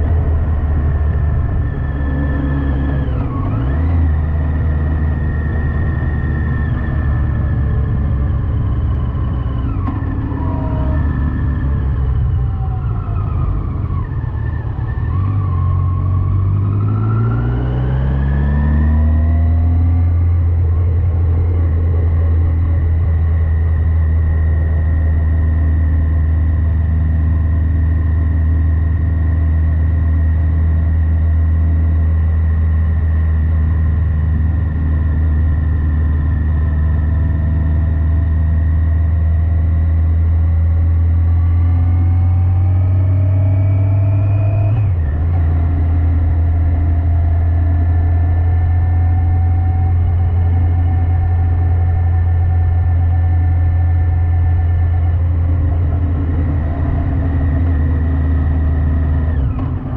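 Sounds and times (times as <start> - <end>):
low rumble: 0.0 - 59.9
motorcycle engine accelerating: 0.0 - 59.9.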